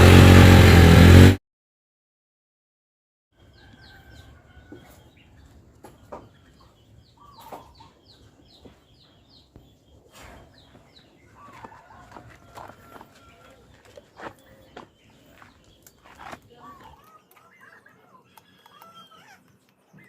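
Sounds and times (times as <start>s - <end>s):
small birds chirping: 3.4s - 20.0s
chicken clucking: 3.6s - 20.0s.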